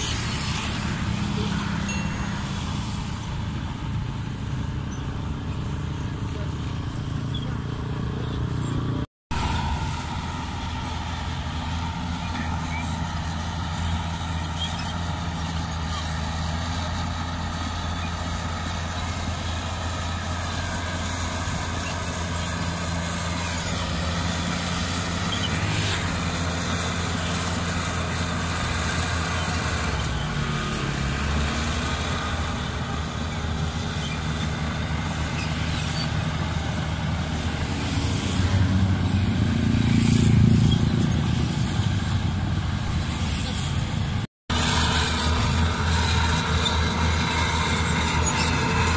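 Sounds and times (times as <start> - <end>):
bulldozer diesel engine under load: 0.0 - 48.9.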